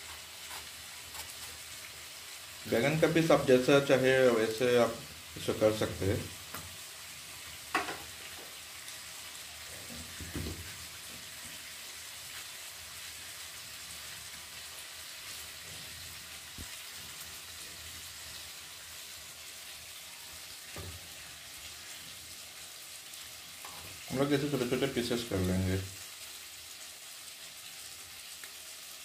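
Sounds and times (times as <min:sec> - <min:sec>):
vegetables frying with sizzling hiss: 0:00.0 - 0:29.0.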